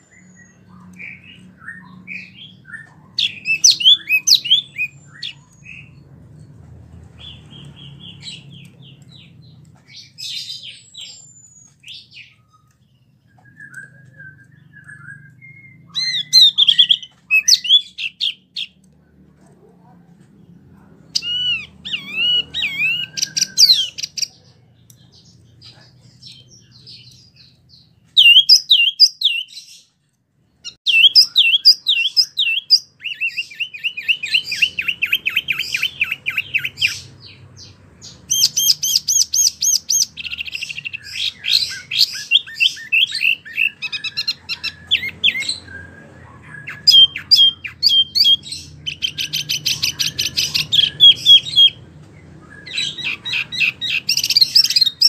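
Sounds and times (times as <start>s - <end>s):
songbird singing whistled trills: 0.0s - 6.0s, 7.2s - 18.8s, 21.2s - 29.9s, 30.8s - 55.0s.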